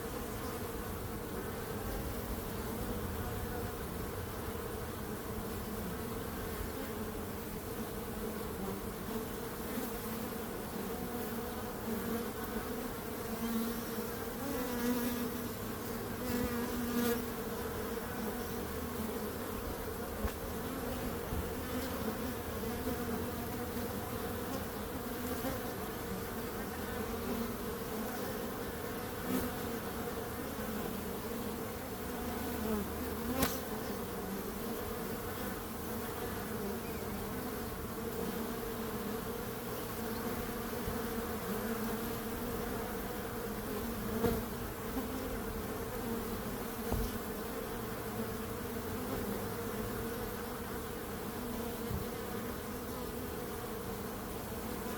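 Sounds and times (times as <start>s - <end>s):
bees buzzing: 0.0s - 54.9s.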